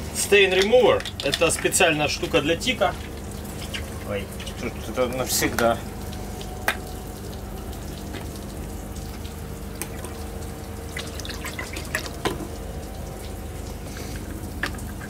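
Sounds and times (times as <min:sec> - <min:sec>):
liquid pouring into bucket of water: 0:00.0 - 0:15.0
low hum: 0:01.0 - 0:15.0.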